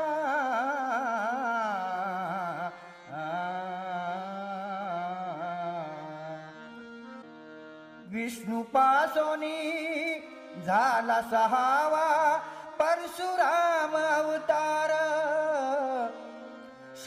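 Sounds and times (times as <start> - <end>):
person singing: 0.0 - 6.4, 8.0 - 17.0.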